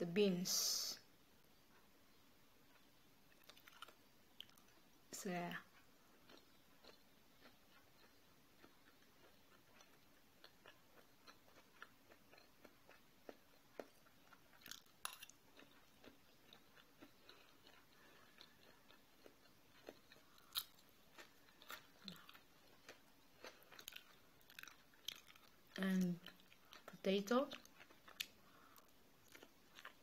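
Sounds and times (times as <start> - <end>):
chewing: 2.6 - 5.0, 5.6 - 30.0.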